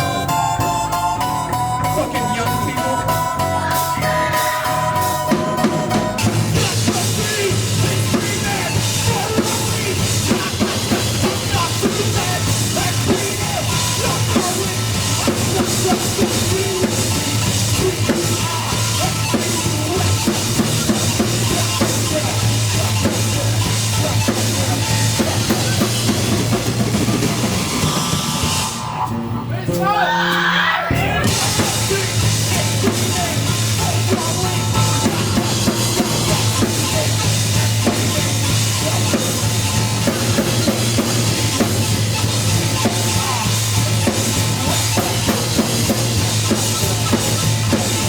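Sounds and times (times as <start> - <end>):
drum kit: 0.0 - 48.0
heavy bass line: 0.0 - 48.0
live rock band: 0.0 - 48.0.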